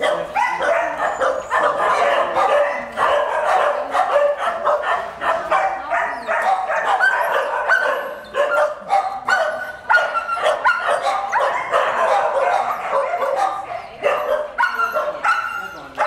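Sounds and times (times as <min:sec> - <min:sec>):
many dogs barking and yelping: 0:00.0 - 0:16.0.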